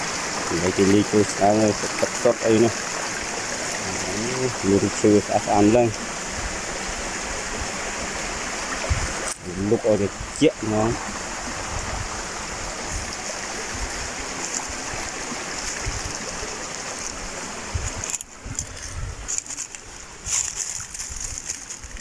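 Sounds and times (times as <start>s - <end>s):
waterfall stream rushing: 0.0s - 22.0s.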